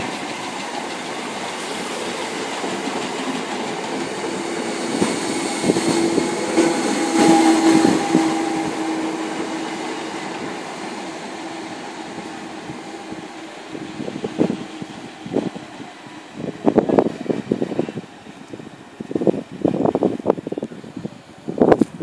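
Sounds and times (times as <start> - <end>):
electric train hum: 0.0 - 22.0.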